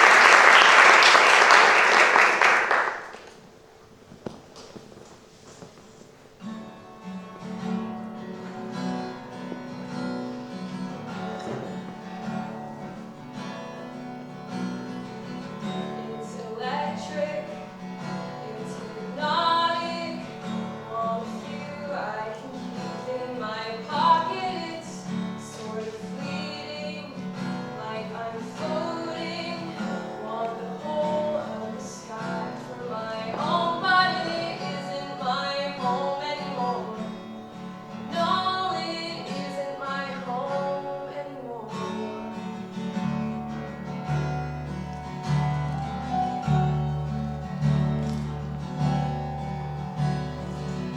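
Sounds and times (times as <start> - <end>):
acoustic guitar accompaniment: 0.0 - 50.9.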